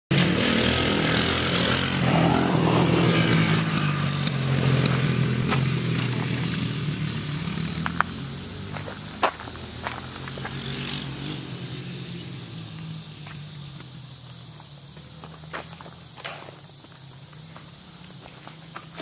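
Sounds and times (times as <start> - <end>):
small vehicle engine running: 0.1 - 19.0.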